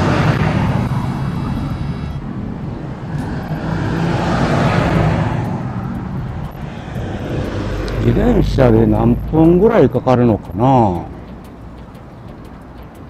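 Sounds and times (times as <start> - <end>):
road noise: 0.0 - 13.0
rushing wind on microphone: 0.0 - 13.0.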